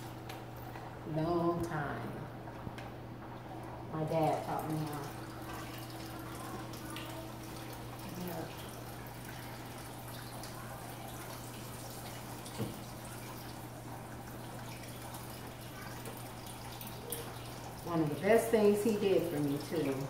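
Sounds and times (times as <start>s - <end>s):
dough frying in hot grease: 0.0s - 20.0s.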